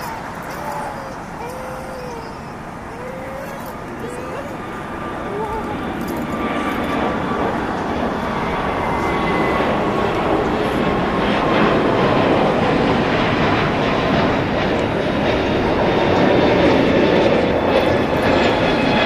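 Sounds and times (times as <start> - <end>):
faint engine whine: 0.0 - 19.0
jet engine roar: 0.0 - 19.0.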